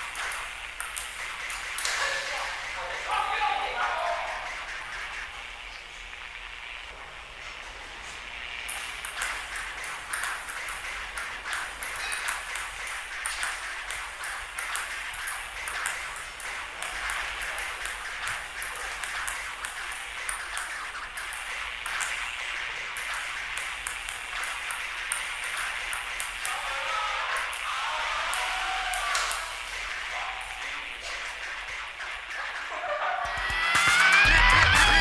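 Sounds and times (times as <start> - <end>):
table tennis balls clicking: 0.0 - 5.4, 8.6 - 34.9
steady hiss: 0.0 - 33.0.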